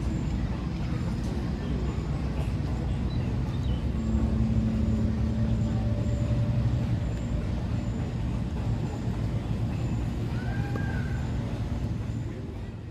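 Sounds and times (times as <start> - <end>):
faint hum: 0.0 - 12.9
heavy engine rumbling: 0.0 - 12.9.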